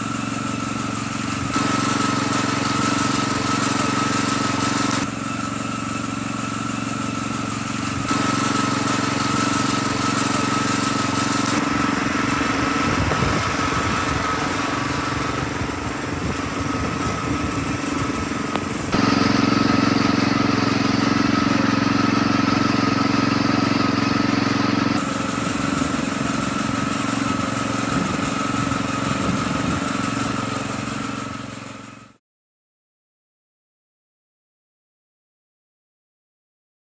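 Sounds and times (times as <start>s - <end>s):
garden tractor engine running: 0.0s - 32.2s.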